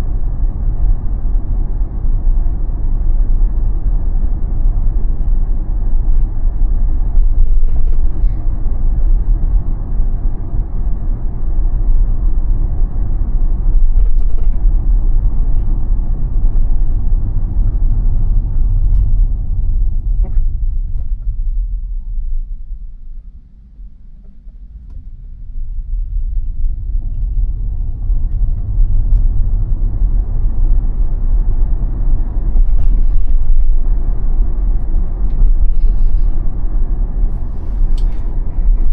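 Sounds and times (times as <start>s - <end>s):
car road and tyre rumble: 0.0s - 38.9s.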